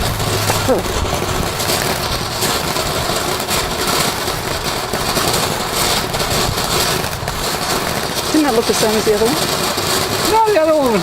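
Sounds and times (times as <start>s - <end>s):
firework spraying hiss: 0.0s - 11.0s.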